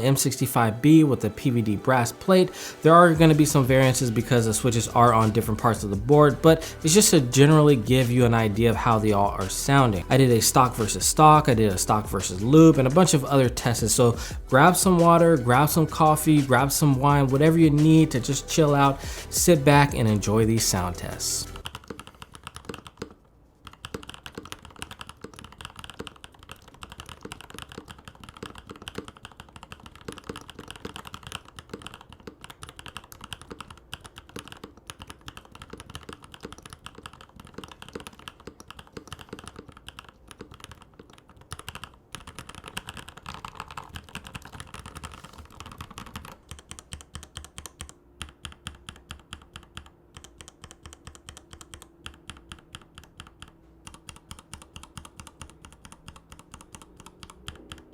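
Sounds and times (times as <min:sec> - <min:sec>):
mechanical keyboard typing: 0:00.0 - 0:57.9.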